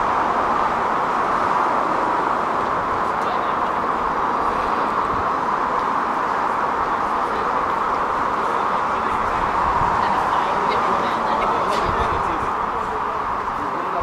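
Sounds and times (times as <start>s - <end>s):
rail and traffic hiss: 0.0s - 14.0s.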